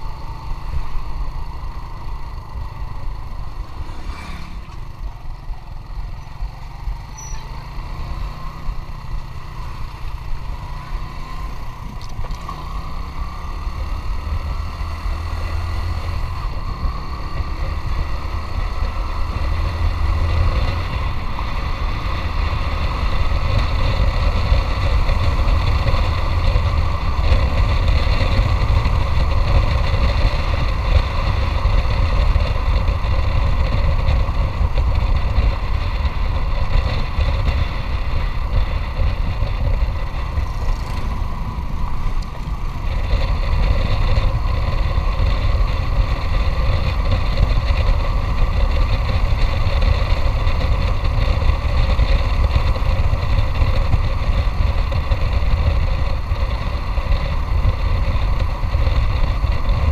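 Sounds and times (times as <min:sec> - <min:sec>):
motorcycle engine running: 0:00.0 - 0:59.9
wind rumbling on microphone: 0:00.0 - 0:59.9.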